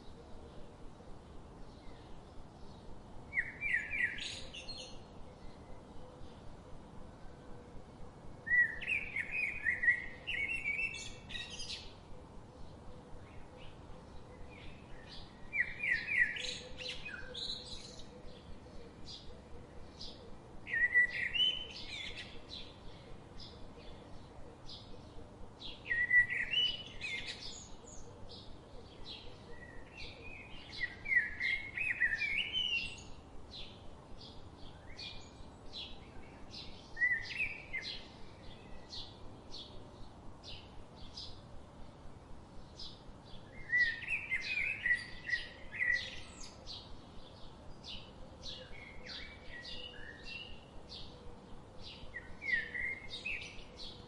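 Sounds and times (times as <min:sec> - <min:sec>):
bird warbling song: 0:01.7 - 0:06.4, 0:08.4 - 0:41.4, 0:42.6 - 0:54.0.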